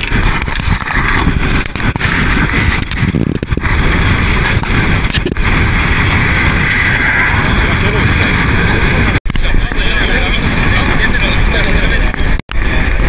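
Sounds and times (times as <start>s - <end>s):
vehicle rumbling: 0.0s - 13.0s
wind buffeting microphone: 0.0s - 13.0s.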